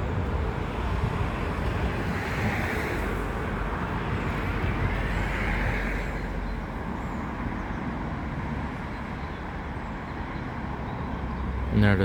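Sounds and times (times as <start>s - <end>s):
vehicles rumbling: 0.0s - 12.0s.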